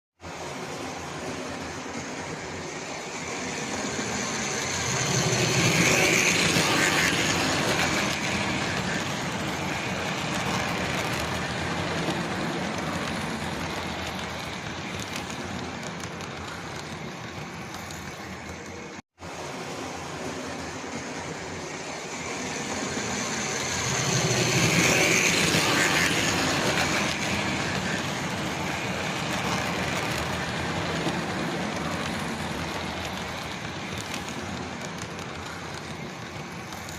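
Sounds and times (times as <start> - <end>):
model train rumbling on track: 0.2 - 36.9.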